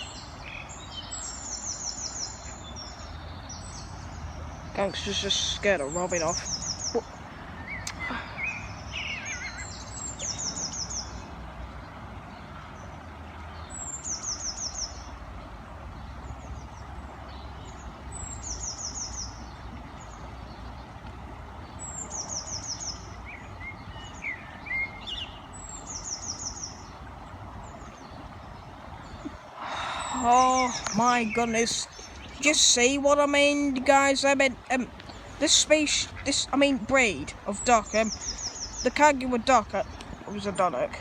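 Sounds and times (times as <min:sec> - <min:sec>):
lower bird chirps: 0:00.0 - 0:11.4, 0:12.3 - 0:15.2, 0:15.9 - 0:41.0
songbird singing high phrase: 0:00.0 - 0:11.4, 0:15.9 - 0:21.0, 0:21.6 - 0:41.0.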